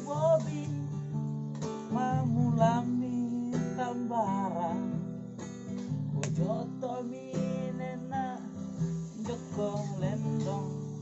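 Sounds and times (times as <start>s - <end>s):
man singing slowly: 0.0s - 1.1s, 1.8s - 5.1s, 6.2s - 11.0s
acoustic guitar strumming chords: 0.0s - 11.0s.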